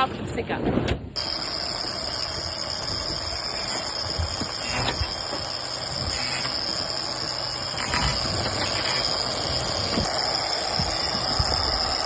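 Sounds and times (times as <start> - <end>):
steady high whine: 1.2 - 12.0.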